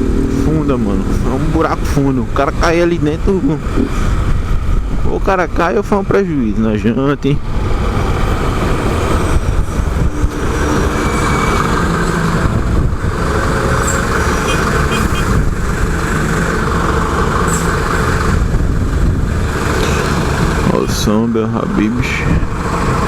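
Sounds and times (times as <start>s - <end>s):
motorcycle engine growling: 0.0s - 23.0s
wind noise on microphone: 0.0s - 23.0s.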